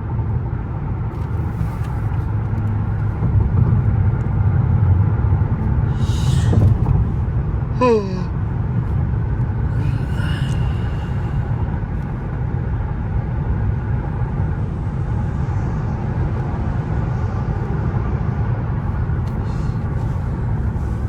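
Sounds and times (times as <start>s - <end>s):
road and tyre rumble in car: 0.0s - 21.0s.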